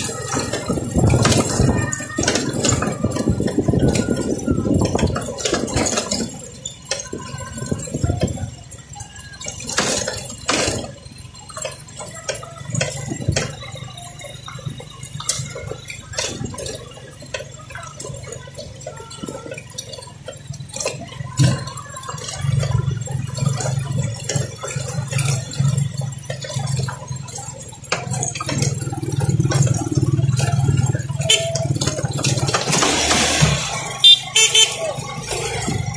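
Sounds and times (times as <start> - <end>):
motorcycle engine hum: 0.0 - 35.9
stones crackling under tyres: 0.0 - 35.9.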